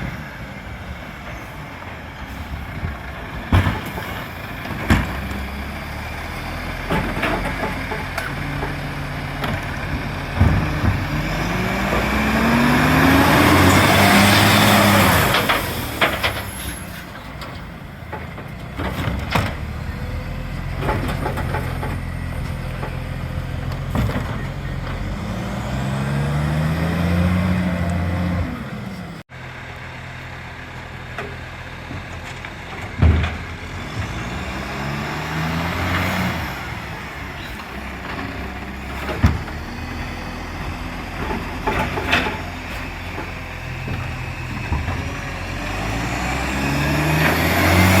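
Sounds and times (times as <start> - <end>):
diesel truck engine revving: 0.0 - 17.6, 18.7 - 30.6, 32.6 - 48.0.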